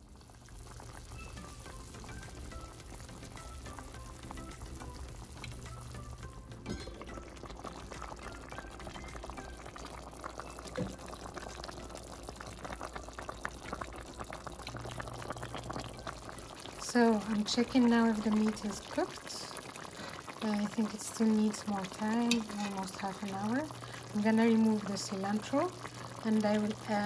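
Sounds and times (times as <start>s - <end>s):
broth bubbling in a pot: 0.0s - 27.0s
soft background music: 0.2s - 27.0s.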